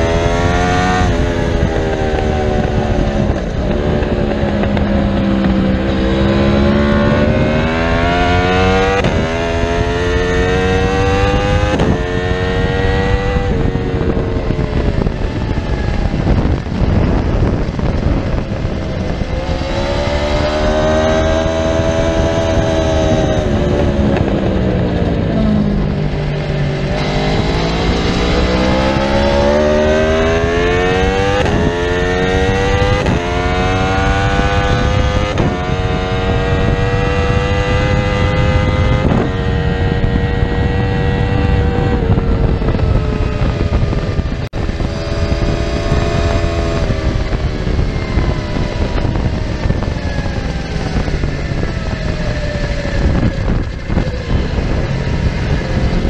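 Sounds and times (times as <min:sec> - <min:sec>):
motorcycle engine at full throttle: 0:00.0 - 0:56.0
wind rush: 0:00.0 - 0:56.0.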